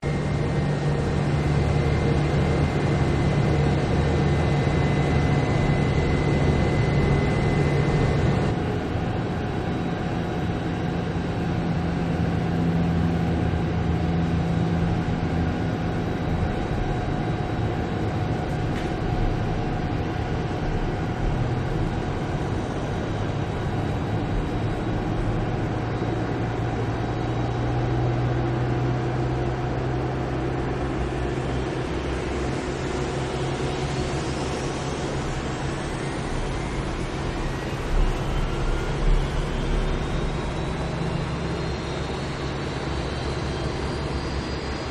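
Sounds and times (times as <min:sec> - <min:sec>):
jet engine rumbling drone: 0:00.0 - 0:44.9.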